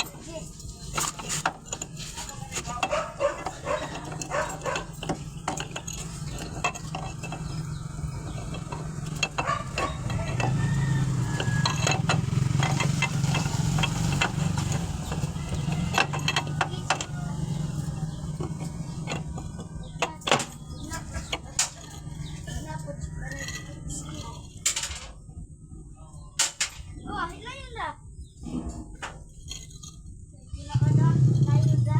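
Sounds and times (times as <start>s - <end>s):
metal parts clinking and scraping: 0.0s - 25.2s, 26.4s - 27.0s, 28.4s - 30.3s.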